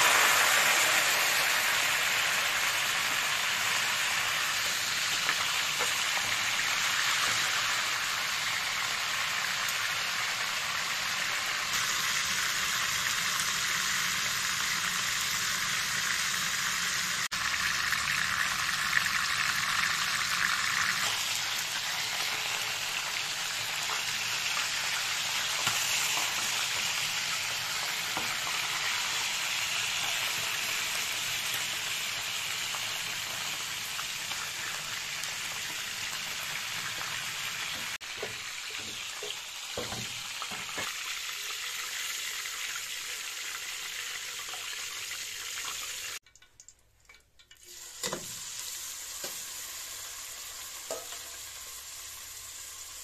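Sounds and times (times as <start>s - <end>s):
chicken sizzling in oil: 0.0s - 53.0s
peppers sizzling in oil: 0.0s - 53.0s.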